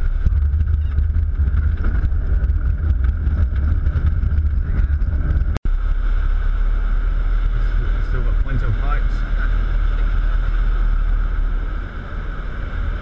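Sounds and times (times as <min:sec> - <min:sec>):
low rumble of plane rolling: 0:00.0 - 0:13.0.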